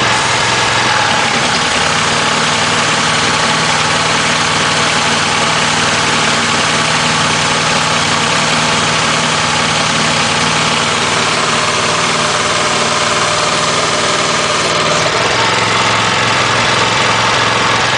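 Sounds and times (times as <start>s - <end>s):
water spray hiss: 0.0s - 16.6s
pressure washer engine running: 0.0s - 17.9s.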